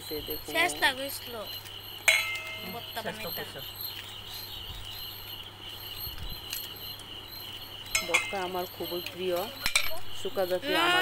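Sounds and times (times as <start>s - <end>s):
pulsing insect trill: 0.0s - 11.0s.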